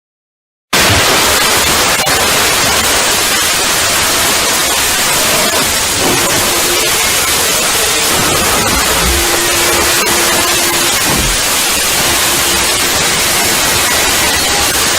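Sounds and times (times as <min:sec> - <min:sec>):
harsh distorted static noise: 0:00.8 - 0:14.9.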